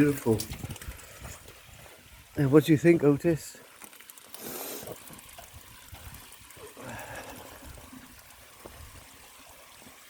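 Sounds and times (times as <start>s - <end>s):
faint trickling water: 0.0s - 10.0s.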